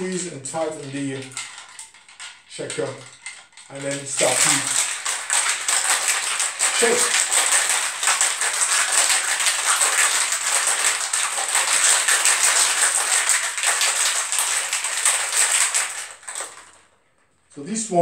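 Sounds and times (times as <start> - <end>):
ice rattling in cocktail shaker: 0.0 - 17.8.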